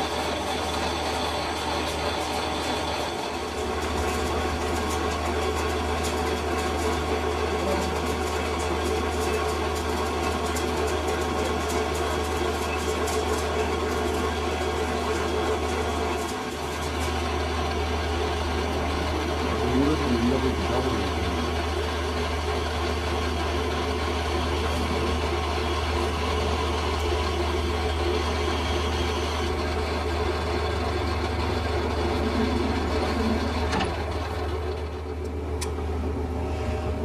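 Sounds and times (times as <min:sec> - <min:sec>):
metal lathe motor hum: 0:00.0 - 0:37.0.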